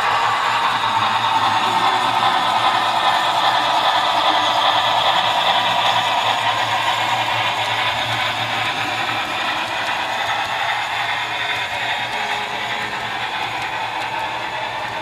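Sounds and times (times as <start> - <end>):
model train wheels clattering: 0.0 - 15.0.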